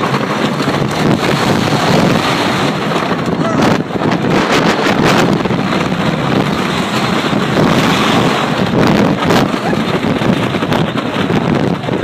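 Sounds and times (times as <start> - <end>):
roller coaster rumbling on track: 0.0 - 12.0
wind buffeting microphone: 0.0 - 12.0.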